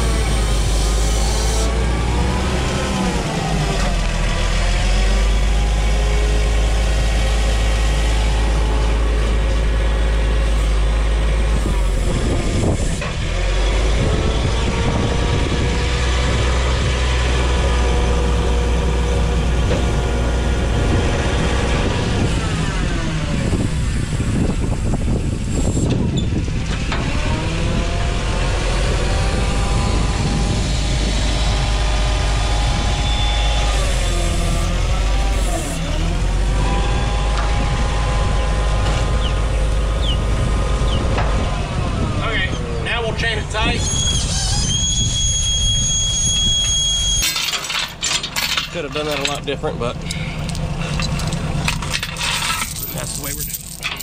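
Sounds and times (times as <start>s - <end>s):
forklift engine revving: 0.0s - 53.1s.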